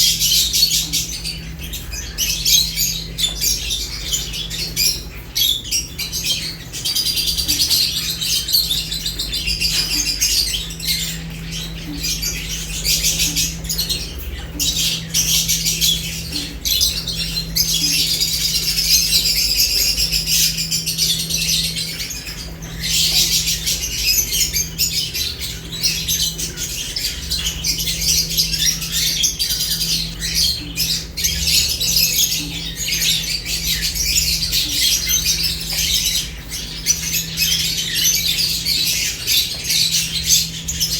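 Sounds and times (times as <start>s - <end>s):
lovebirds chattering and squawking: 0.0s - 40.9s.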